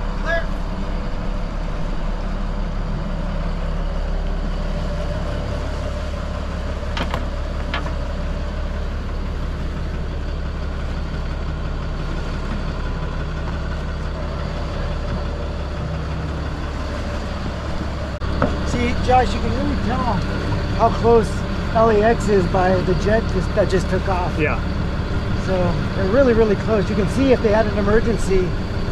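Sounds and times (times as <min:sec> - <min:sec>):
boat engines humming: 0:00.0 - 0:28.9.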